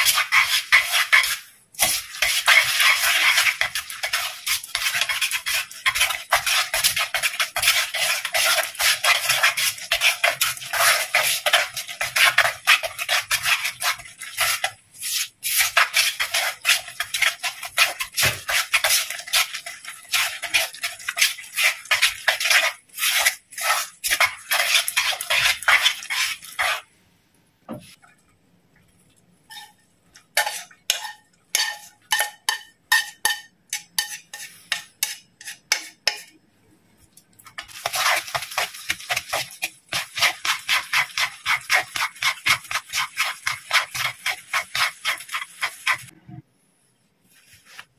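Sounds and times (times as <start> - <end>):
spatula scraping a pot: 0.0 - 26.9, 29.5 - 36.4, 37.5 - 46.2.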